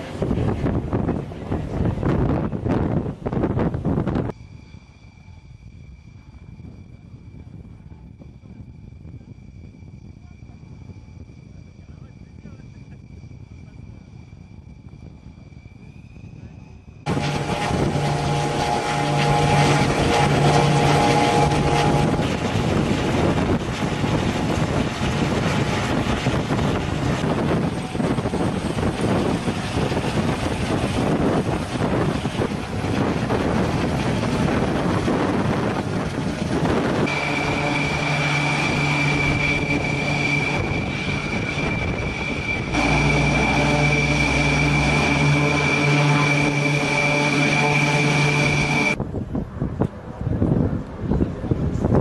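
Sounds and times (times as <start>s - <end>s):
high-pitched whine: 0.0s - 49.0s
deep drone: 0.0s - 49.1s
aircraft turbine engine noise: 0.0s - 52.0s.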